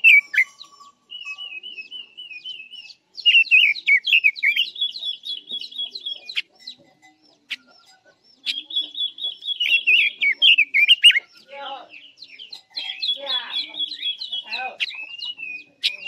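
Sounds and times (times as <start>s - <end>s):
bird singing warbling song: 0.0s - 16.0s.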